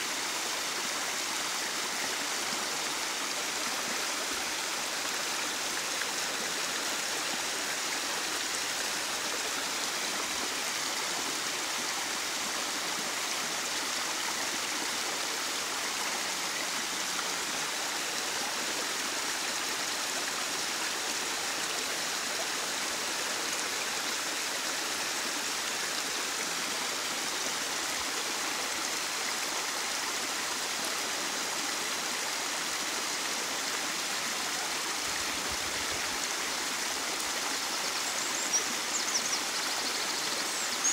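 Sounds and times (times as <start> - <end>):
waterfall rushing and splashing: 0.0 - 40.9.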